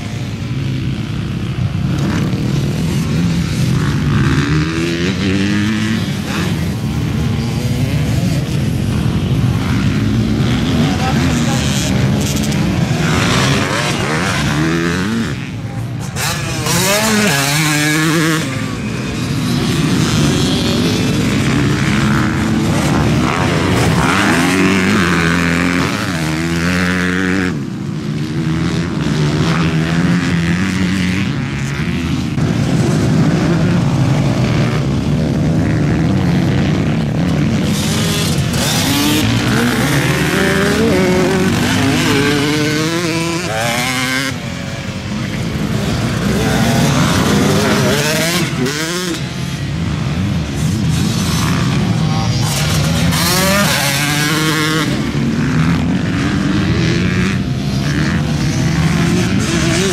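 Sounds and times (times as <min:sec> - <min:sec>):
engines revving hard: 0:00.0 - 0:59.9.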